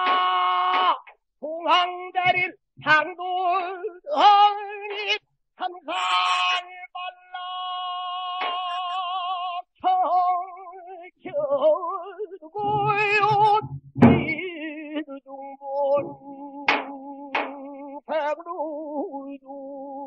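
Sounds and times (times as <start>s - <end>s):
person singing with heavy vibrato: 0.0s - 20.0s.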